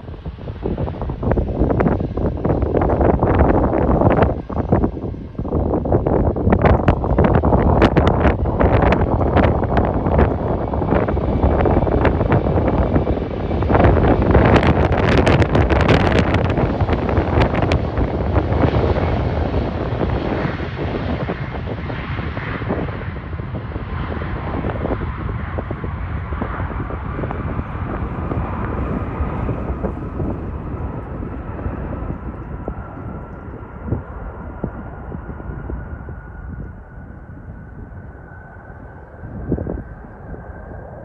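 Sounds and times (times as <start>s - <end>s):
jet engines passing: 0.0s - 41.0s.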